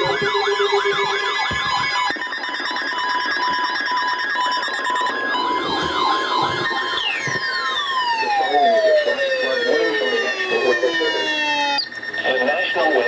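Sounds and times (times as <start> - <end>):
emergency vehicle sirens: 0.0 - 13.0
siren winding down: 0.0 - 13.0.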